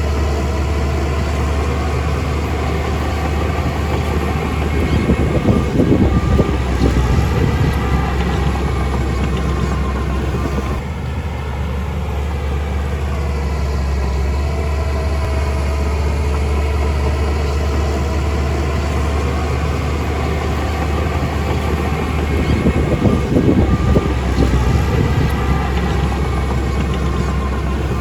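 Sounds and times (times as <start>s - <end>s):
heavy diesel engine droning: 0.0s - 28.0s.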